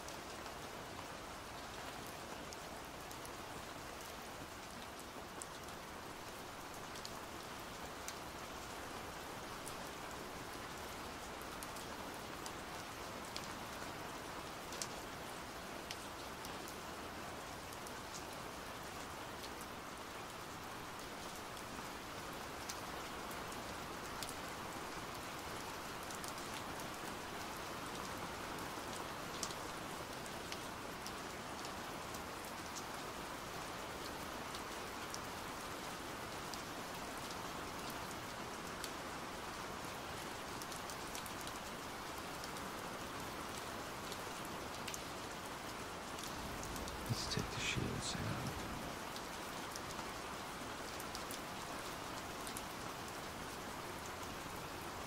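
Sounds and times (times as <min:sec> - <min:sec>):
steady pouring rain: 0:00.0 - 0:55.0.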